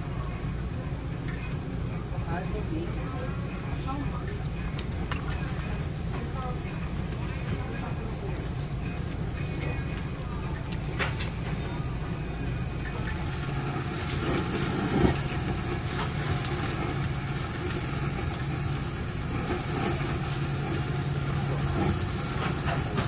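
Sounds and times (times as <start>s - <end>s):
meat sizzling on grill: 0.0s - 23.0s.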